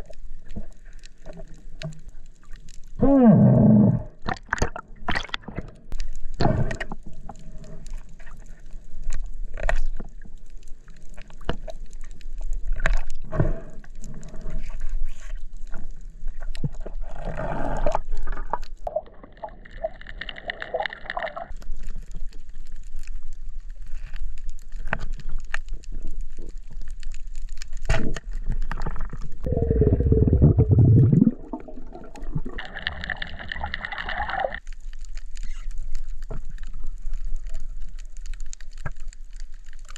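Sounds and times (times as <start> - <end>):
underwater water movement: 0.0 - 39.9.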